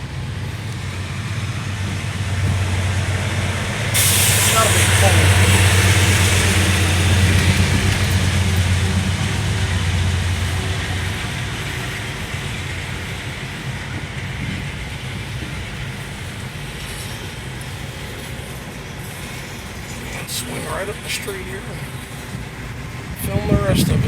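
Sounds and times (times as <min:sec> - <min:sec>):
low diesel hum: 0:00.0 - 0:24.0
rail cars rolling rumble: 0:00.0 - 0:24.0.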